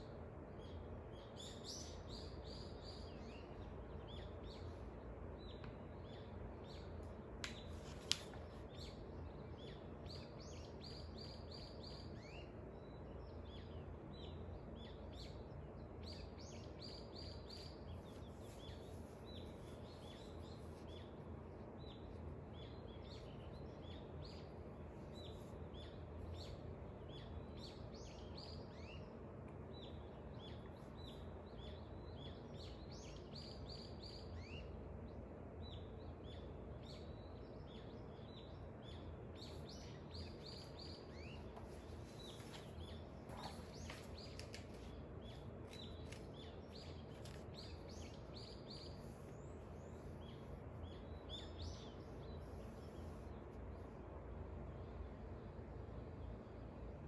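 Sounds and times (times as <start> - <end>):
low background hum: 0.0 - 57.0
small birds chirping: 0.0 - 57.0.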